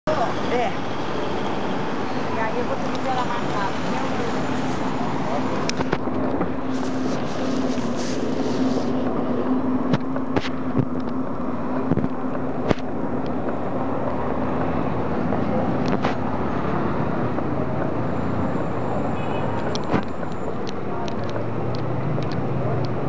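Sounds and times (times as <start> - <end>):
car and engine noise: 0.0 - 23.0.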